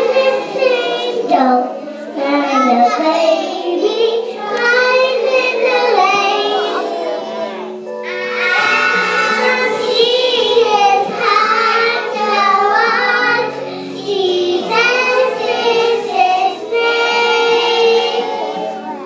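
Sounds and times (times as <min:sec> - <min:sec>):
girls singing together: 0:00.0 - 0:19.0.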